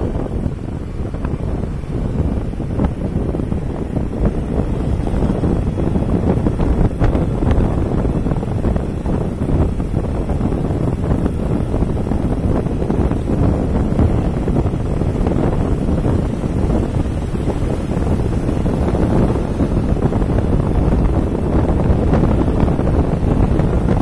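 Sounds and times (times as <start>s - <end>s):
road and traffic noise: 0.0s - 24.0s
wind buffeting microphone: 0.0s - 24.0s.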